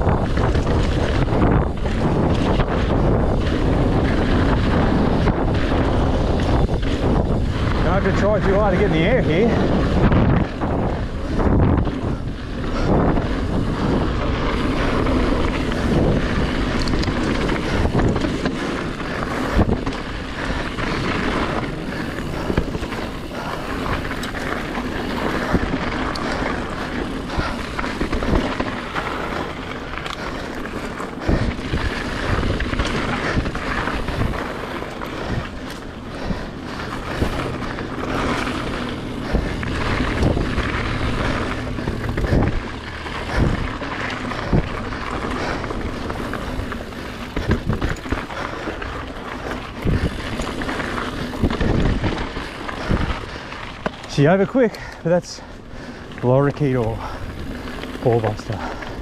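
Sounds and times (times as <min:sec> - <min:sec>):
bike rattling over bumps: 0:00.0 - 0:59.0
tyres rushing on dirt and gravel: 0:00.0 - 0:59.0
wind buffeting microphone: 0:00.0 - 0:59.0.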